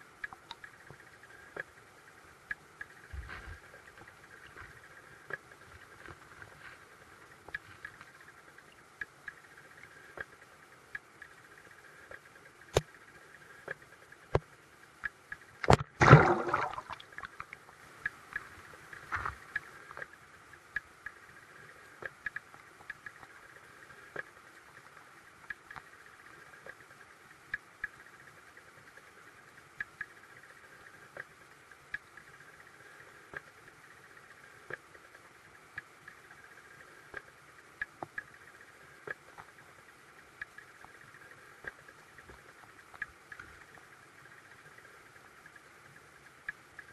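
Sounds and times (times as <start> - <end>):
small clicks and ticks: 0.0 - 16.0, 16.8 - 46.9
muffled underwater creek hiss: 0.0 - 46.9.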